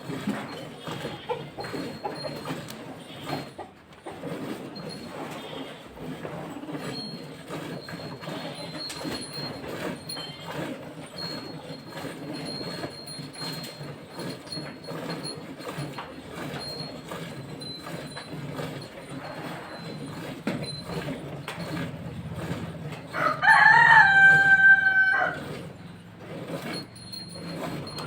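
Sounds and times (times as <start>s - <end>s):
cow being milked: 0.0s - 28.0s.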